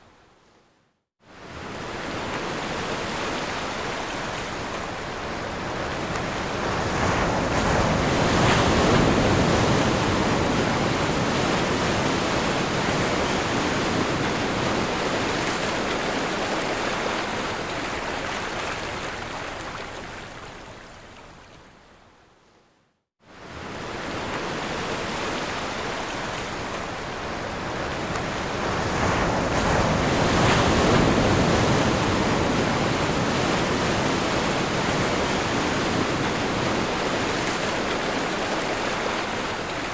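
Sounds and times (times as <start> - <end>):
waves breaking on shore: 1.2 - 21.6, 23.2 - 39.9.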